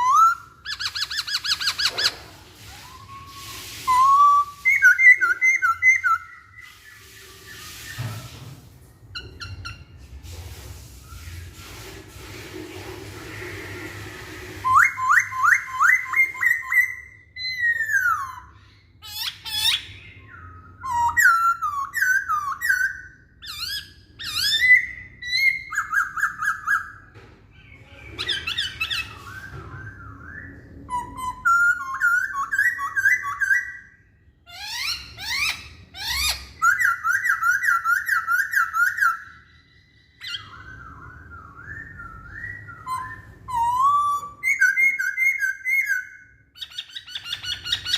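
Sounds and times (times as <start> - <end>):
bird singing whistles and trills: 0.0 - 8.4, 14.6 - 47.9.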